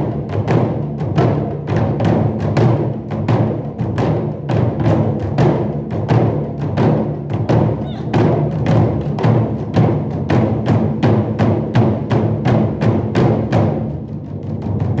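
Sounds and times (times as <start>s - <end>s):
deep drums playing rapidly: 0.0s - 15.0s.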